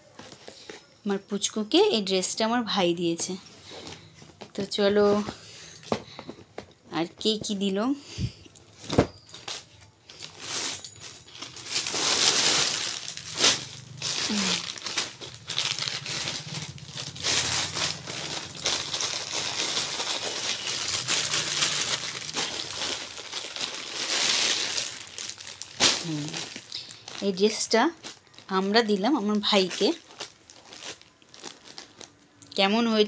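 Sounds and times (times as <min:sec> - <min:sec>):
plastic bags rustling and crinkling: 0:00.0 - 0:33.0.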